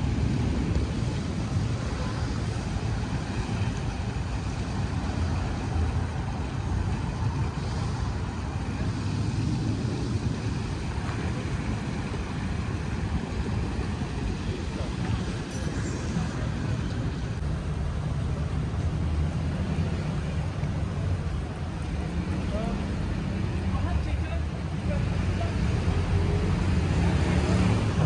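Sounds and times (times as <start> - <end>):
ship engines rumbling: 0.0 - 28.0.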